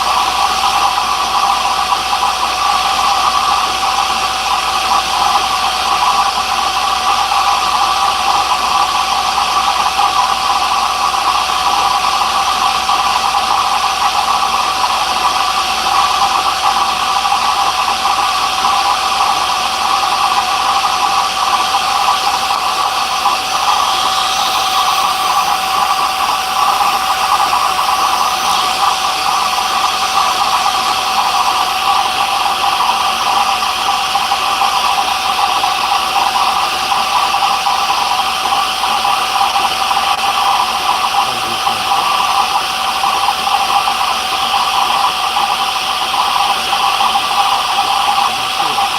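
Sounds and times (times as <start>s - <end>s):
electric motor whining: 0.0s - 35.4s, 37.9s - 48.9s.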